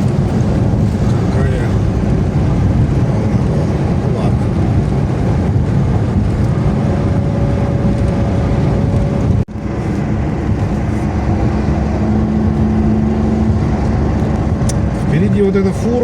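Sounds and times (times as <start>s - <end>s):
car engine and tyre road noise: 0.0s - 16.0s.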